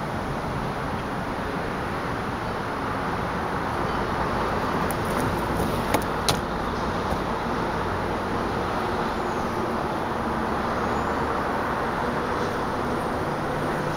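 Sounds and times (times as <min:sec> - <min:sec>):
outdoor background noise: 0:00.0 - 0:13.9.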